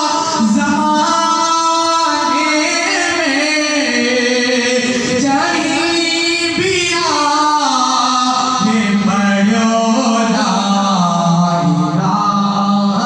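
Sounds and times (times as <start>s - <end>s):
man chanting: 0.0s - 13.0s.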